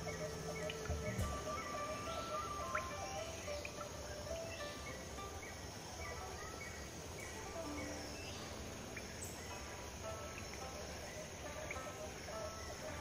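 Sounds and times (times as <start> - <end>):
birds chirping: 0.0 - 13.0
flowing river water: 0.0 - 13.0.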